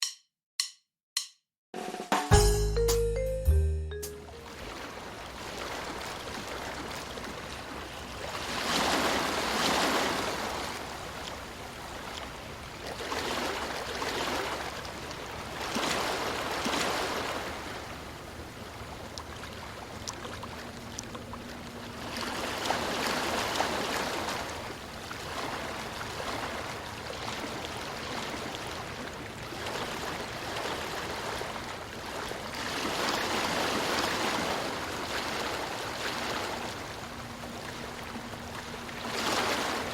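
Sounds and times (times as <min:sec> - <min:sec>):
ocean waves washing onto beach: 0:04.4 - 0:21.0, 0:21.7 - 0:39.9.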